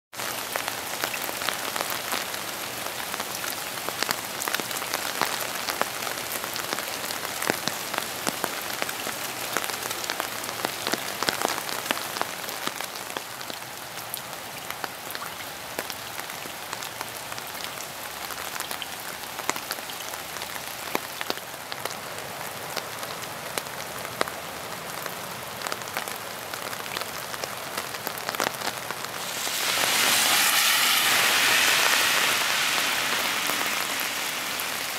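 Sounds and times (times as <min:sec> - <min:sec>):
raindrops hitting close by: 0:00.1 - 0:34.9
steady rain hiss: 0:00.2 - 0:34.9.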